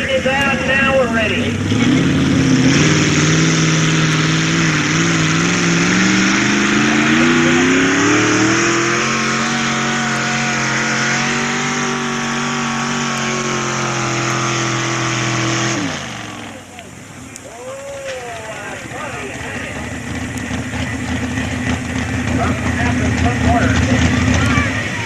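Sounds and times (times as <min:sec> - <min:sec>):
truck engine at full throttle: 0:00.0 - 0:25.0.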